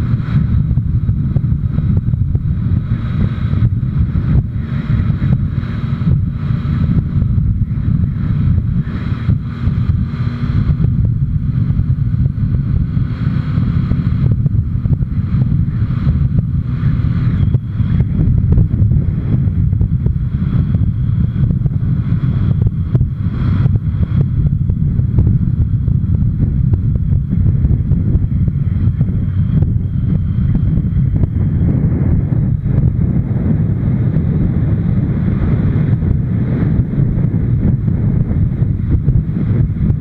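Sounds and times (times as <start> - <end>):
motorcycle engine running: 0.0 - 40.0
wind buffeting microphone: 0.0 - 40.0.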